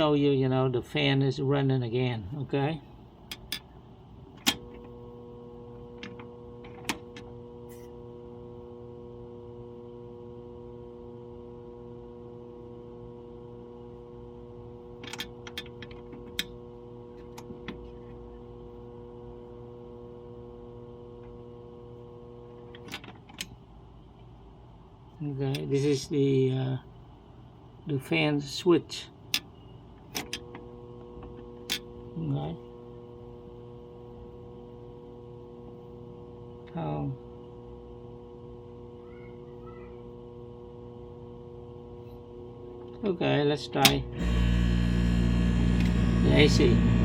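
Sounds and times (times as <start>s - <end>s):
fan motor humming: 0.0s - 23.5s, 29.9s - 47.0s.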